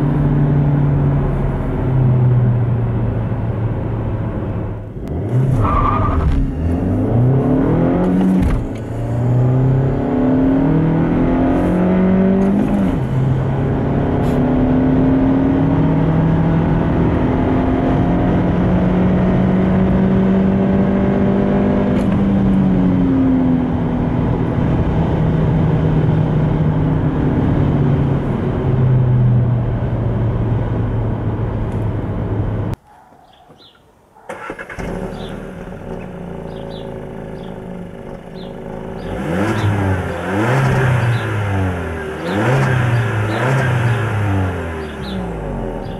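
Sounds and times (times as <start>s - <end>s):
car engine accelerating through gears: 0.0s - 32.8s, 34.3s - 45.9s.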